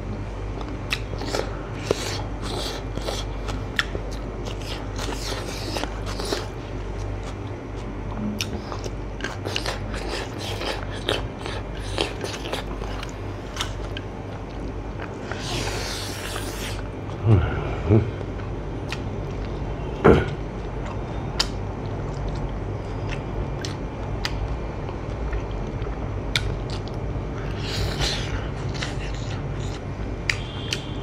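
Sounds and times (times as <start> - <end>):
low steady hum: 0.0 - 31.0
person chewing and lip smacking: 0.5 - 17.2, 18.1 - 19.6, 20.2 - 31.0.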